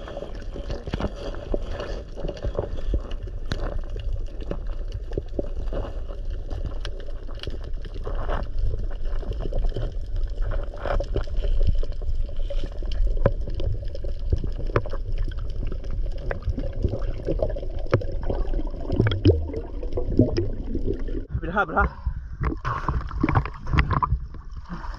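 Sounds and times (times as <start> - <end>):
water sloshing and splashing: 0.0 - 24.9.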